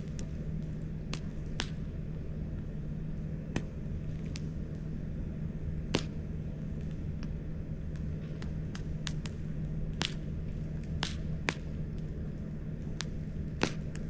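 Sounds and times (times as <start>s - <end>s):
sharp pops of fire: 0.0s - 2.2s, 3.4s - 4.9s, 5.6s - 14.0s
campfire crackling: 0.0s - 14.0s.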